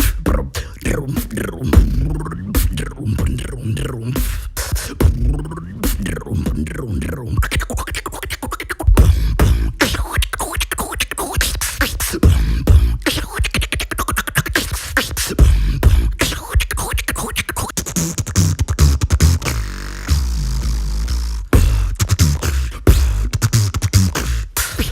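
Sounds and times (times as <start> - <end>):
beatboxing deep bass notes: 0.0 - 24.9
beatboxing percussive clicks: 0.0 - 24.9.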